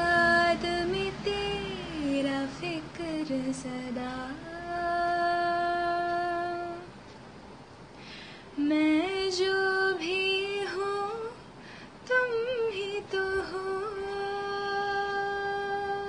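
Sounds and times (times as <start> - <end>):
woman singing unaccompanied: 0.0 - 7.1, 8.5 - 16.0.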